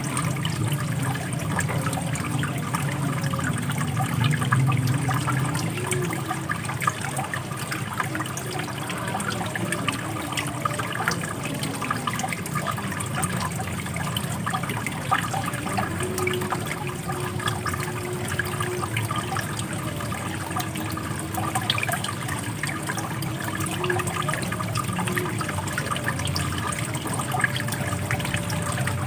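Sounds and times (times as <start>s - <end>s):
water running with splashes: 0.0s - 29.0s.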